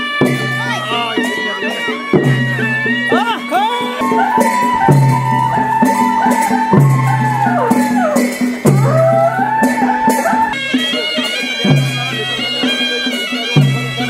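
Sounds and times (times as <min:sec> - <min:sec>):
rattling percussion: 0:00.0 - 0:14.0
sliding folk melody: 0:00.0 - 0:14.0.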